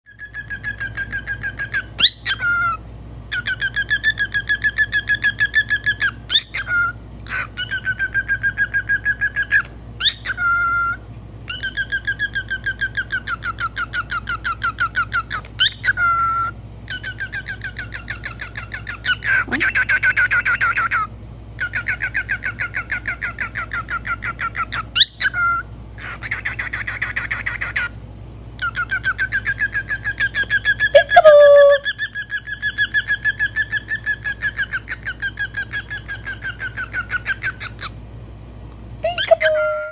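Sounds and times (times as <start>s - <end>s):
cockatiel chirping: 0.1s - 27.9s, 28.6s - 38.0s.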